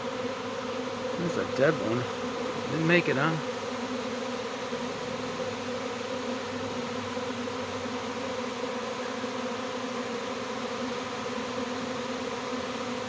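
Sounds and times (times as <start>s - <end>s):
bee swarm buzzing: 0.0s - 13.0s.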